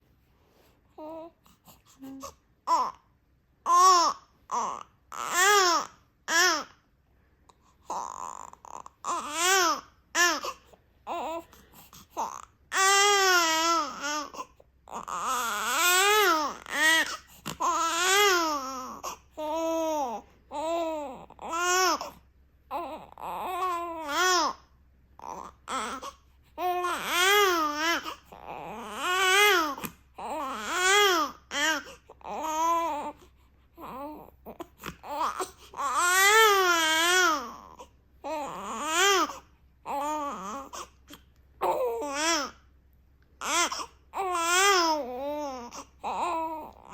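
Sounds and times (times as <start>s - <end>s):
baby crying: 3.7s - 6.8s, 7.9s - 11.5s, 12.2s - 24.6s, 25.2s - 33.2s, 33.8s - 42.6s, 43.4s - 46.9s.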